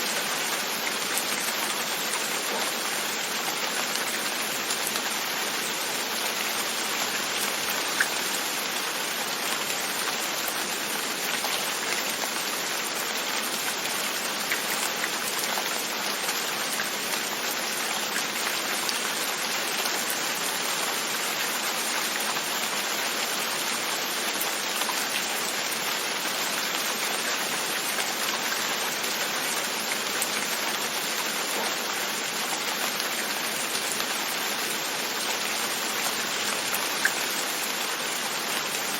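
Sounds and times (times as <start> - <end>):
rain pattering on a window: 0.0 - 38.9.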